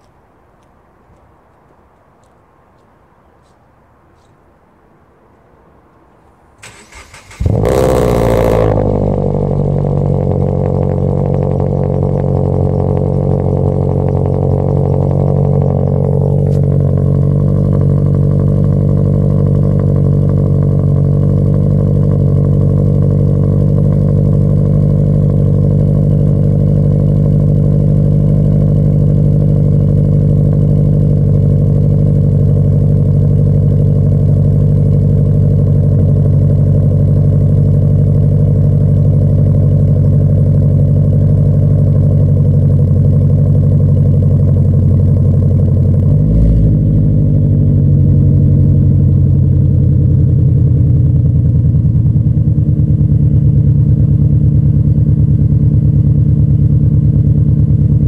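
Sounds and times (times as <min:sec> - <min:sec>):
loud car engine idling: 0:06.6 - 0:58.0.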